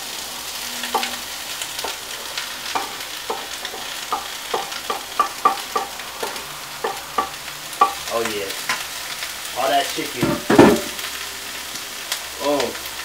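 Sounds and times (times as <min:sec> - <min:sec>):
oil and vegetables sizzling in pan: 0:00.0 - 0:13.0.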